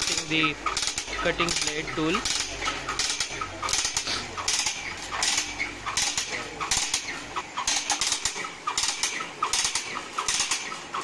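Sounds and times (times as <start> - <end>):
machine clacking rhythmically: 0.0 - 11.0.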